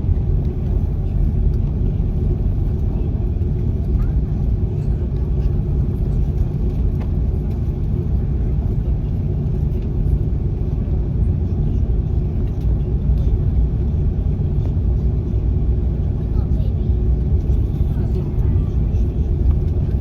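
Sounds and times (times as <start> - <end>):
airplane engine rumble in cabin: 0.0 - 20.0.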